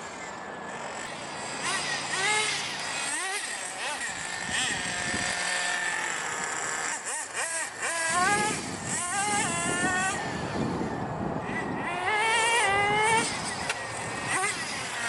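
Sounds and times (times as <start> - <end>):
small model engine revving: 0.0 - 15.0.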